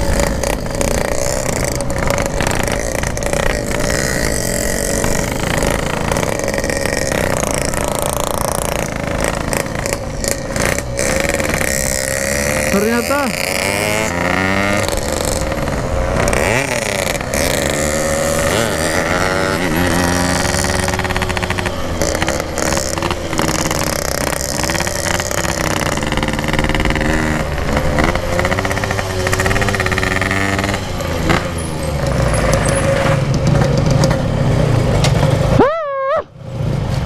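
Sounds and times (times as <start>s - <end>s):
two-stroke motorcycle engine revving: 0.0s - 35.7s.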